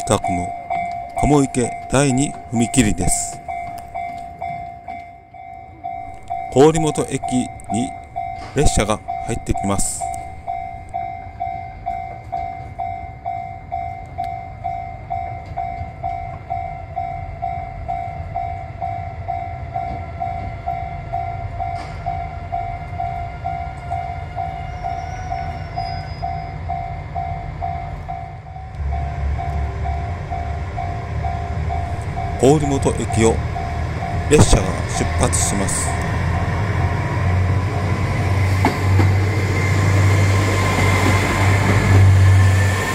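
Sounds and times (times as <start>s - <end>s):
level crossing warning bell ringing: 0.0s - 42.9s
low rumble of train: 0.0s - 42.9s.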